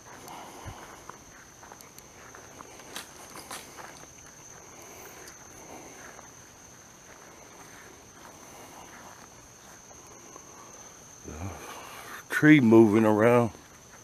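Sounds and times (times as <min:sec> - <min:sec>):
crickets droning: 0:00.0 - 0:14.0
footsteps through grass and leaves: 0:00.0 - 0:14.0.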